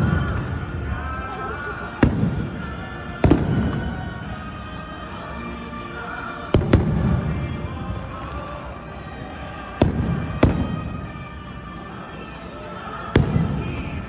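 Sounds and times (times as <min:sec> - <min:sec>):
fireworks bangs: 0:00.0 - 0:14.0
rumbling echo: 0:00.0 - 0:14.0.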